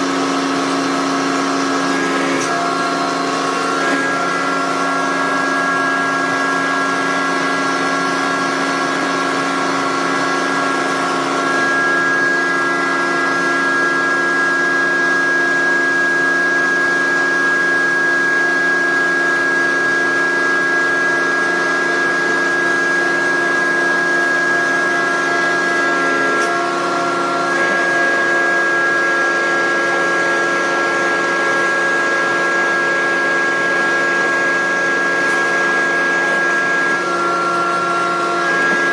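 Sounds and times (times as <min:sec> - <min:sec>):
constant machine hum: 0:00.0 - 0:38.9
hydraulic machine whine: 0:00.0 - 0:38.9.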